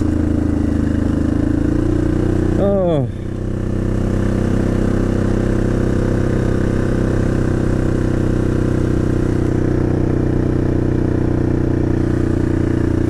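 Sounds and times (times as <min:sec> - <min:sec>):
atv engine running steadily: 0:00.0 - 0:13.0.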